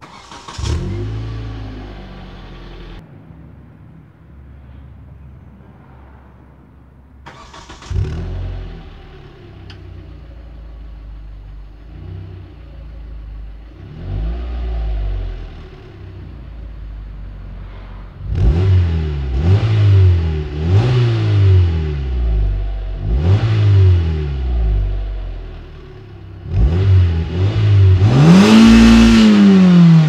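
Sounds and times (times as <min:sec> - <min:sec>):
engine revving: 0:00.0 - 0:03.0, 0:07.3 - 0:30.0
car engine starting and idling: 0:00.0 - 0:30.0.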